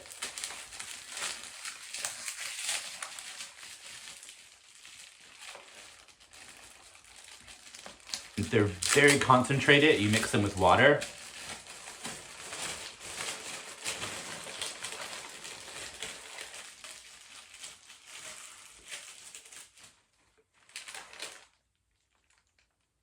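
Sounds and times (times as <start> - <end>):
paper packaging crinkling: 0.0 - 22.8.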